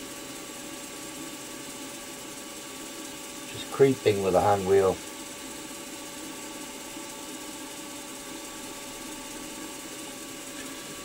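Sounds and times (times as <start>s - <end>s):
milling machine motor humming: 0.0s - 11.0s.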